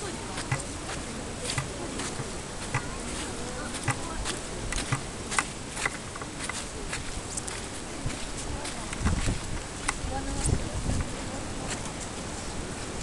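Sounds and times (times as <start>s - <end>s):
distant voices murmuring: 0.0s - 13.0s
footsteps clicking: 0.4s - 11.1s.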